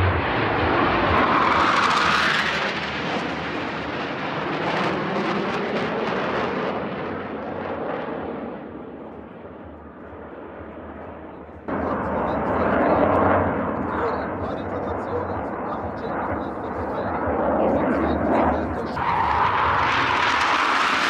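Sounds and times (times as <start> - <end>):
jet roar flying past: 0.0 - 21.0.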